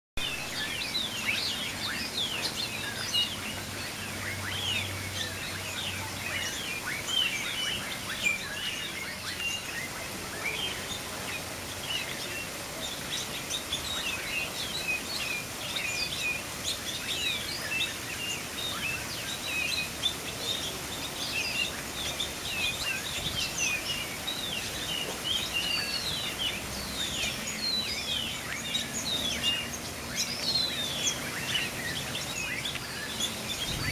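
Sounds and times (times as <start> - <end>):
birds chirping and whistling: 0.2 - 33.9.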